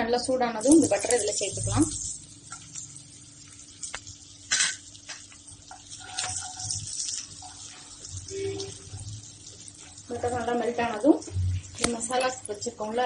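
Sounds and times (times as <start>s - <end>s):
butter sizzling in a pan: 0.4s - 13.0s.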